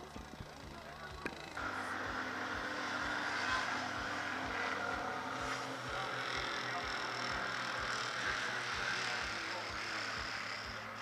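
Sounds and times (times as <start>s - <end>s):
vehicle engines droning: 0.0s - 11.0s.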